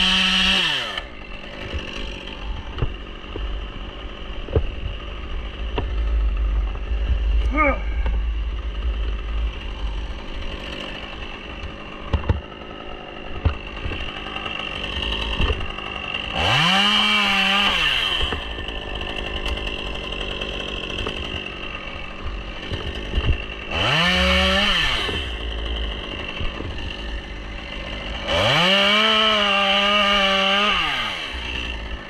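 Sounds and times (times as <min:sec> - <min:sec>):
chainsaw idling and revving: 0:00.0 - 0:32.0.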